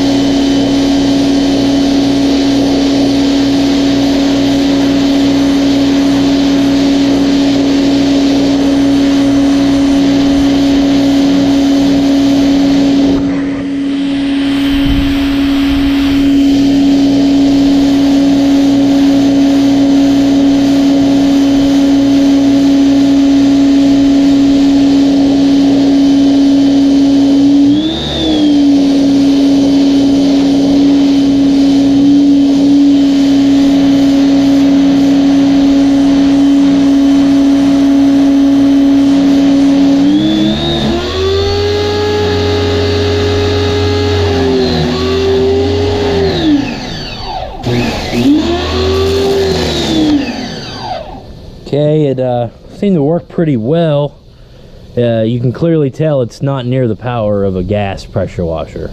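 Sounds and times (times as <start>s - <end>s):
electric pressure washer spraying: 0.0s - 51.6s.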